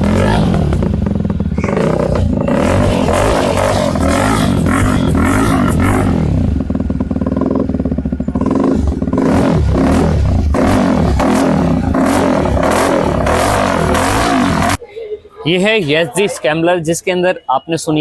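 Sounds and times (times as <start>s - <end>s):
motorcycle engine revving and idling: 0.0s - 14.8s.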